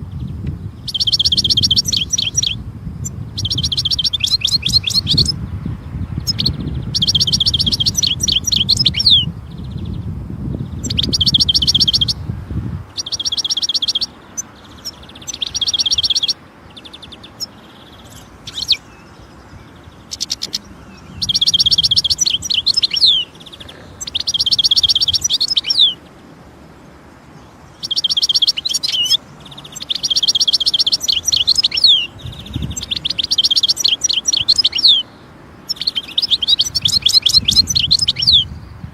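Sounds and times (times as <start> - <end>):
goldfinch singing: 0.1 - 10.0, 10.6 - 12.2, 12.9 - 26.2, 27.3 - 38.7.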